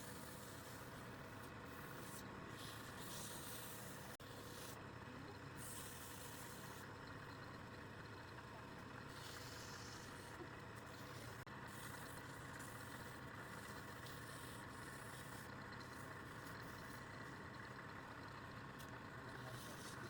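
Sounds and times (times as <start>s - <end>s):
faint mechanical hum: 0.0s - 20.0s.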